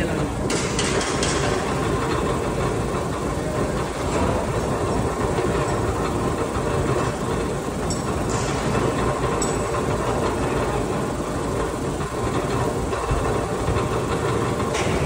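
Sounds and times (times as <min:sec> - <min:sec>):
heavy machinery rumbling: 0:00.0 - 0:15.0.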